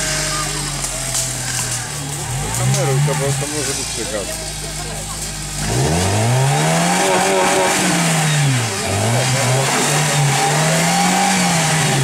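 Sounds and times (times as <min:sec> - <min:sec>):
engine revving hard under load: 0:00.0 - 0:12.0.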